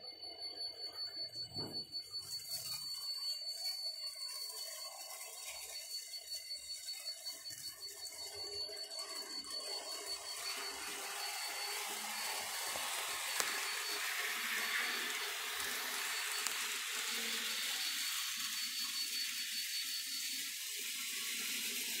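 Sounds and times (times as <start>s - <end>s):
model train whirring on track: 0.0s - 22.0s.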